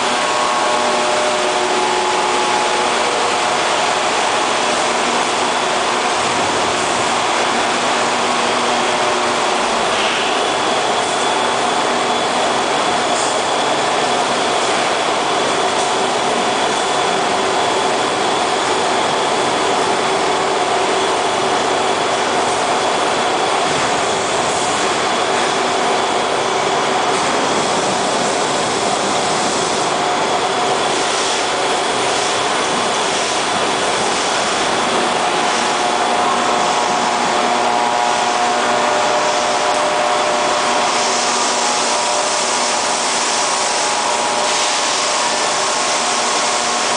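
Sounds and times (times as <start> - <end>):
conveyor belts rattling: 0.0 - 46.9
steady machine hum: 0.0 - 46.9.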